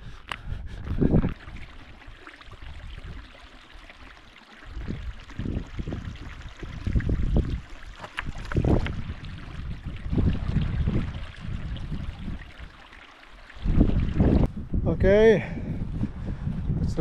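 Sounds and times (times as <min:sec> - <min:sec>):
wind rumbling on microphone: 0:00.0 - 0:03.4, 0:04.6 - 0:12.9, 0:13.5 - 0:17.0
stream trickling over stones: 0:00.2 - 0:14.5
water bottle filling: 0:00.8 - 0:14.5.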